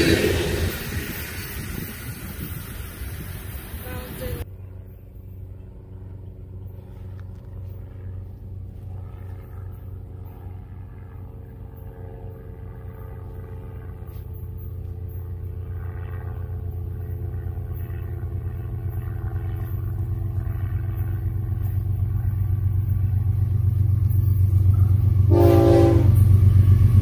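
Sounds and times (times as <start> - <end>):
diesel locomotive engine rumble: 0.0 - 27.0.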